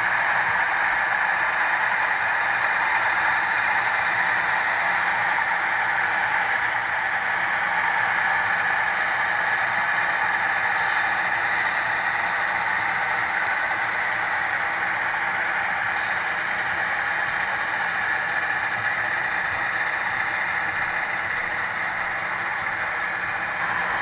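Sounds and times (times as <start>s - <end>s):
model train diesel engine hum: 0.0s - 24.0s.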